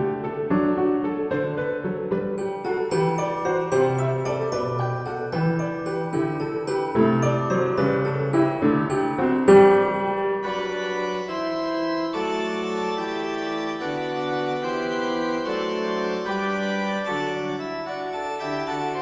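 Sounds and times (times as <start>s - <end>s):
organ-like keyboard chords: 1.3s - 19.0s.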